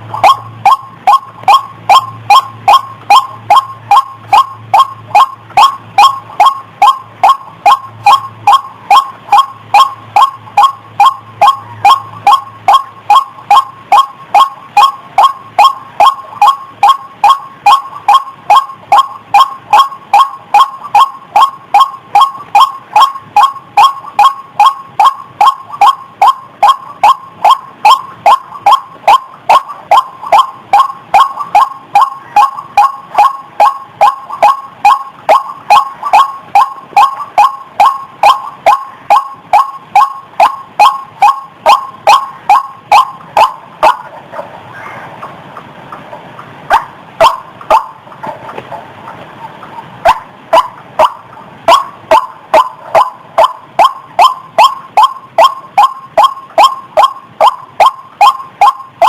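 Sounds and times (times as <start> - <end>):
waterhen calling sharp notes: 0.0 - 59.0.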